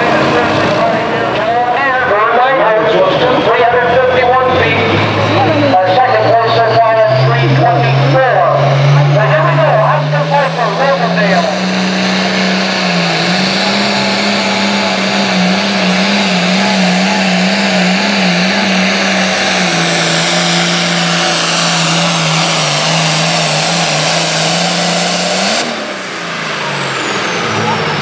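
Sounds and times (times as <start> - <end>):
diesel tractor engine under load: 0.0 - 28.0.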